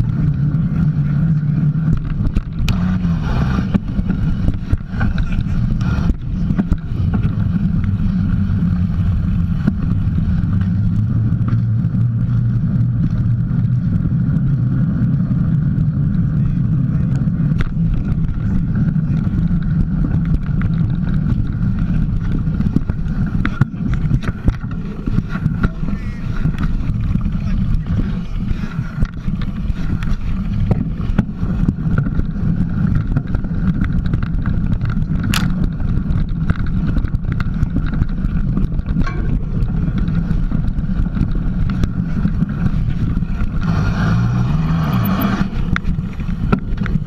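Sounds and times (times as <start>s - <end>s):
bike knocks and rattles: 0.0s - 14.5s, 15.9s - 43.6s, 45.4s - 47.0s
bike tyre noise: 0.0s - 47.0s
wind buffeting microphone: 0.0s - 47.0s.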